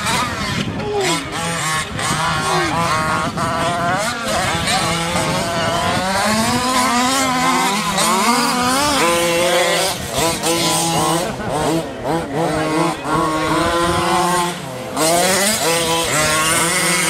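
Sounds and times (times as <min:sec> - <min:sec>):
rc truck motors whining: 0:00.0 - 0:17.0.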